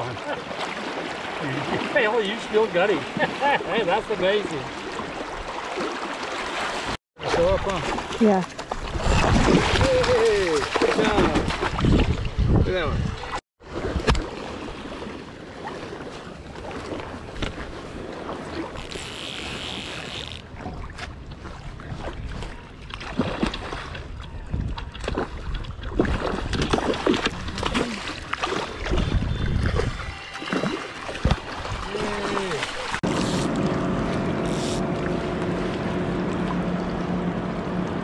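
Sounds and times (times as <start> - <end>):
water splashes: 0.0 - 38.0.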